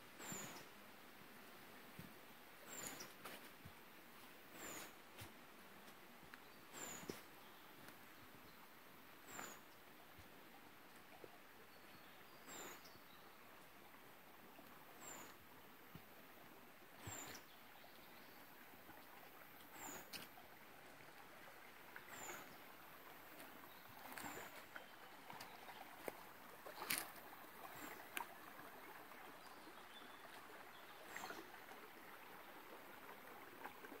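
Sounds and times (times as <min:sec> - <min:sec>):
creek flowing: 0:00.0 - 0:34.0.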